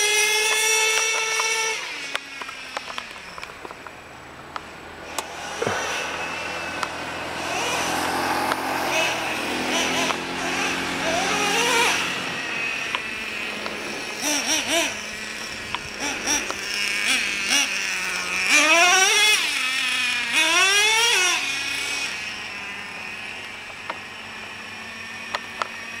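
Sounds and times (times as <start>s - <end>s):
toy truck motor revving and whining: 0.0s - 4.1s, 5.0s - 26.0s.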